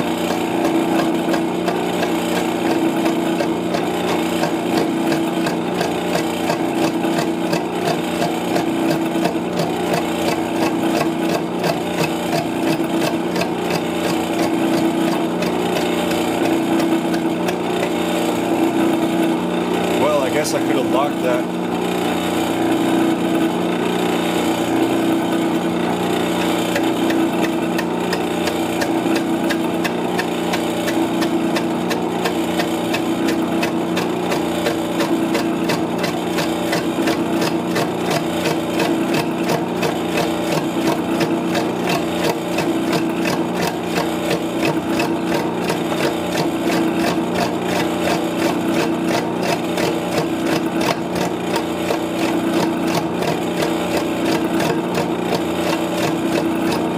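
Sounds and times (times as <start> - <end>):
lathe tool bit ticking on wood: 0.0 - 18.5, 26.0 - 56.9
lathe motor hum: 0.0 - 56.9.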